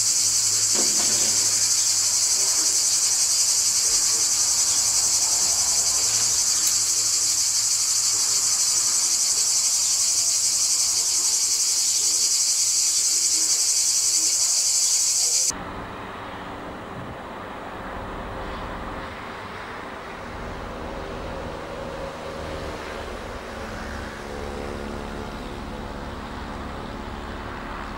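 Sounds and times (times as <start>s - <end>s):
cicadas droning: 0.0s - 15.6s, 19.1s - 27.9s.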